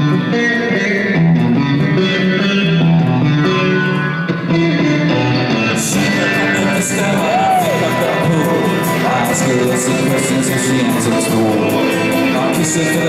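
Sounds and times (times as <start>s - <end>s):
acoustic and electric guitars: 0.0s - 13.0s.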